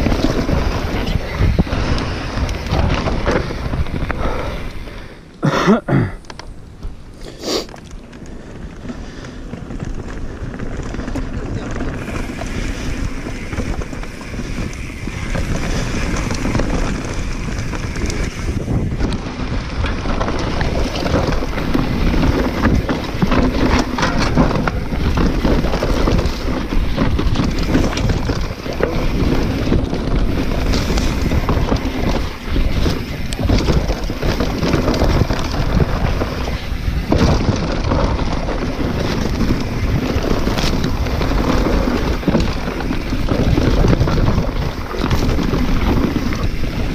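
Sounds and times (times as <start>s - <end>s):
bike frame rattling: 0.0s - 5.0s, 6.2s - 46.9s
wind on microphone: 0.0s - 5.0s, 8.2s - 46.9s
bike tyres rolling over dirt: 0.0s - 46.9s.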